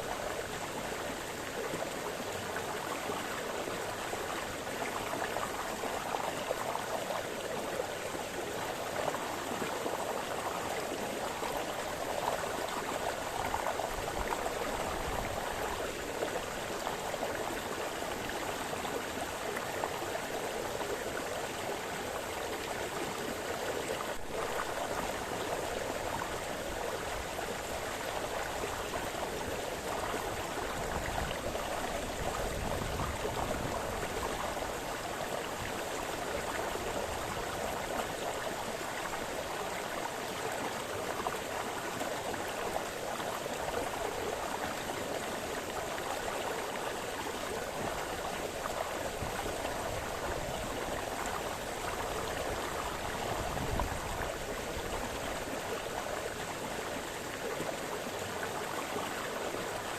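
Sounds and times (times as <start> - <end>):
brook babbling over stones: 0.0 - 59.9.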